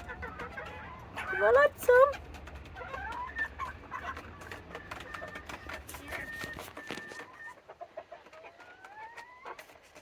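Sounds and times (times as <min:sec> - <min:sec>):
chickens clucking and calling: 0:00.0 - 0:10.0.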